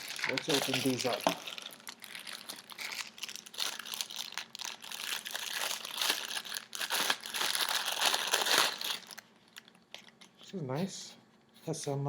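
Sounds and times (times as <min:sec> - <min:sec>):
packaging crinkling and rustling: 0:00.0 - 0:10.5.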